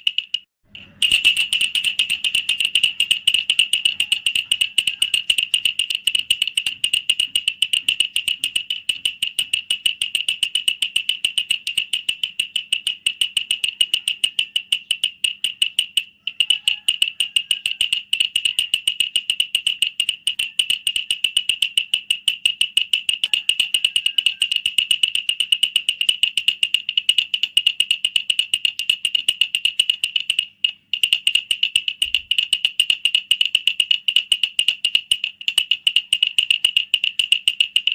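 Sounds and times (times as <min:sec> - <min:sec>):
wooden rattle clicking: 0:00.0 - 0:37.9.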